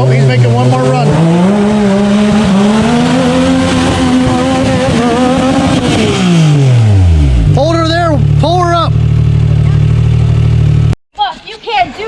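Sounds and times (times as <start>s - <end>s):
utility vehicle engine revving: 0.0s - 11.0s.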